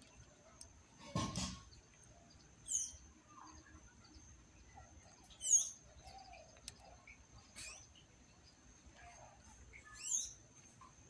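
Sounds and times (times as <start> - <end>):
bird chirping: 1.4 - 11.0.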